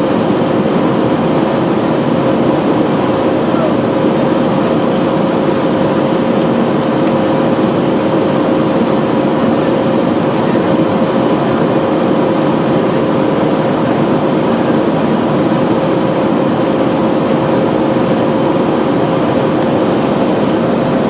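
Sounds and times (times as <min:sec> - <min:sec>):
constant hum: 0:00.0 - 0:21.0
jet engines droning: 0:00.0 - 0:21.0
rushing air: 0:00.0 - 0:21.0.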